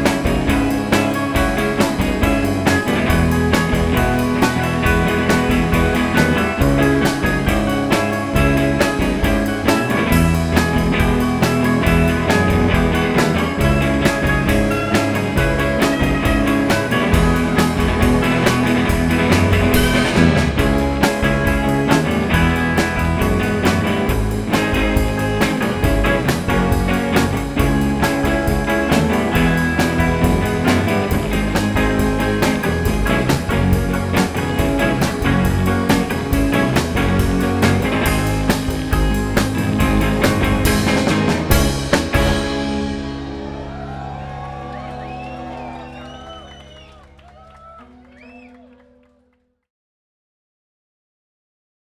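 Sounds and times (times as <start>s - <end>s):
drum kit steady beat: 0.0s - 43.2s
electric guitars: 0.0s - 49.1s.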